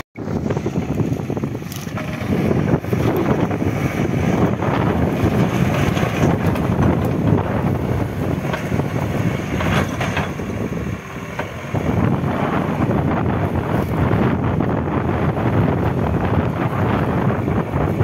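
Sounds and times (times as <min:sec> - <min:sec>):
diesel engine running: 0:00.2 - 0:18.0.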